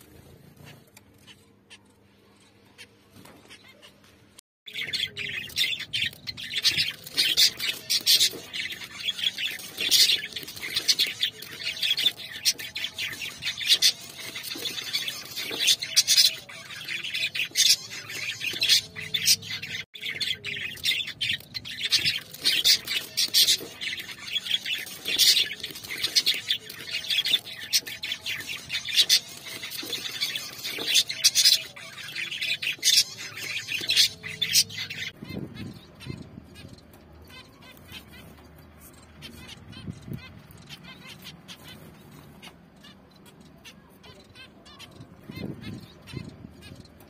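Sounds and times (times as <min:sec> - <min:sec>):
finches chirping: 0:04.7 - 0:47.0.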